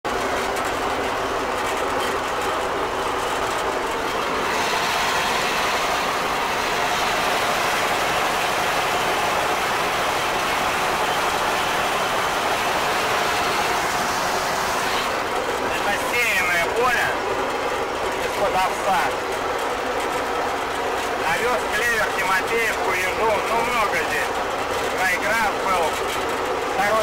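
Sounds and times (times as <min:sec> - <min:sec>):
mower engine and cutter clatter: 0:00.0 - 0:27.0.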